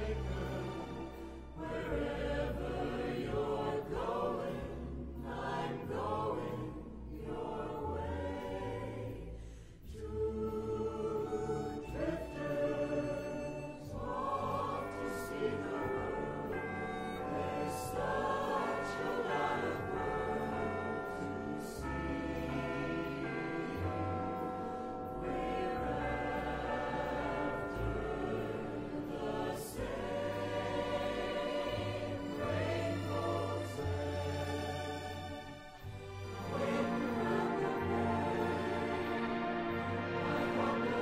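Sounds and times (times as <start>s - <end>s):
background music: 0.0s - 41.0s
choir singing sustained notes: 0.0s - 41.0s.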